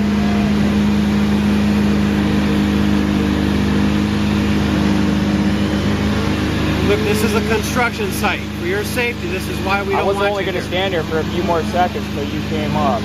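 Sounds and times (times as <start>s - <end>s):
heavy machinery engine droning: 0.0s - 13.0s.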